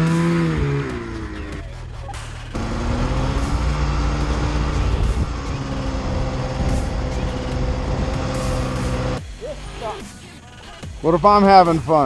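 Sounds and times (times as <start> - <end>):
snowmobile engine running: 0.0 - 10.2.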